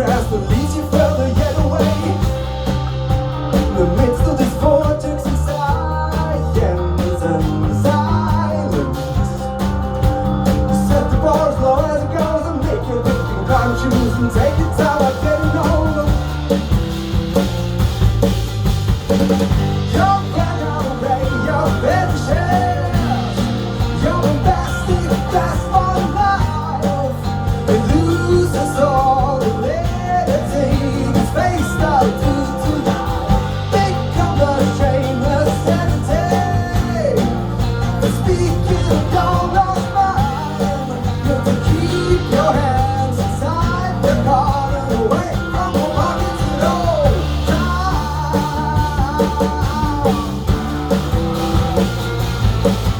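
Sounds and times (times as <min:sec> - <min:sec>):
lead melody with bending notes: 0:00.0 - 0:52.9
rock band playing: 0:00.0 - 0:52.9.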